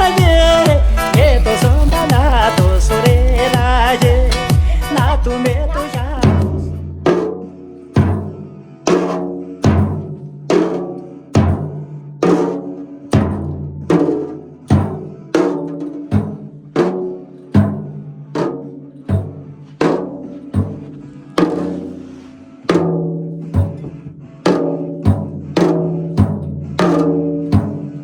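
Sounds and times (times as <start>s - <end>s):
pitched drum beat: 0.0s - 28.0s.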